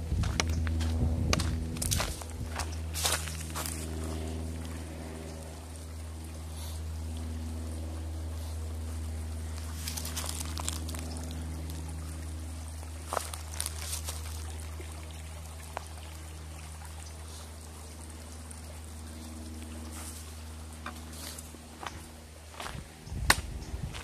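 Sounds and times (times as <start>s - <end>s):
steady low hum: 0.0s - 24.0s
water trickling over rocks: 1.7s - 23.8s.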